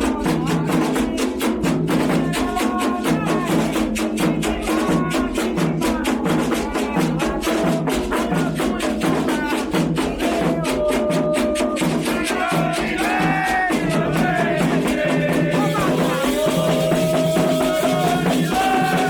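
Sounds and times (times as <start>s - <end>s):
fast ritual drumming: 0.0s - 19.0s
people singing: 0.0s - 19.0s.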